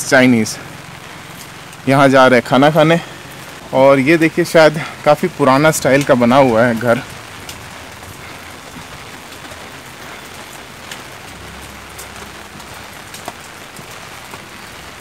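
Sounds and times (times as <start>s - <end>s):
rain on wet pavement: 0.0s - 15.0s
raindrop ticks: 0.0s - 15.0s.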